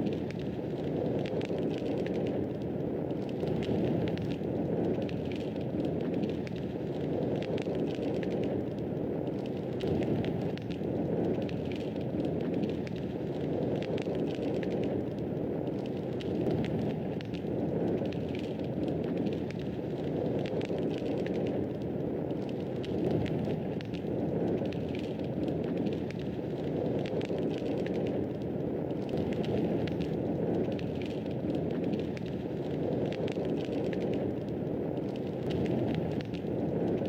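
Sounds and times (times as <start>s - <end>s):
fire crackling in fireplace: 0.0s - 37.0s.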